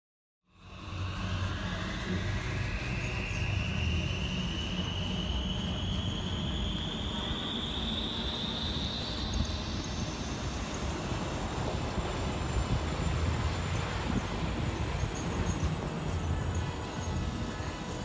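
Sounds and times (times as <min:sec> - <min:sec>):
traffic rumble: 0:00.5 - 0:18.0
vehicle whine rising in pitch: 0:00.5 - 0:18.0.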